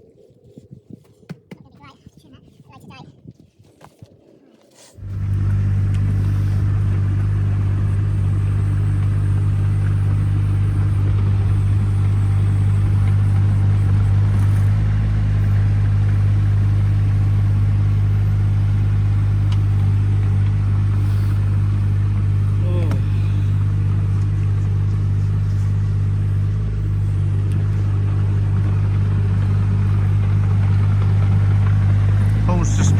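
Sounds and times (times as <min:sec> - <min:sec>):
machine engine humming: 0:05.0 - 0:32.9.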